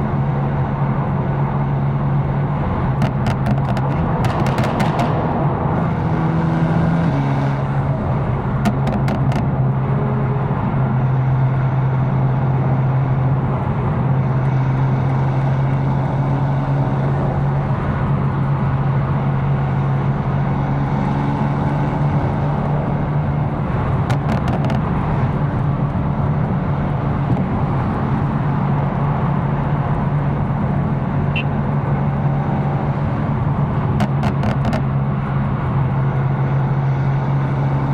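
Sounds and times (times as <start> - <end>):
car engine cruising: 0.0 - 37.9.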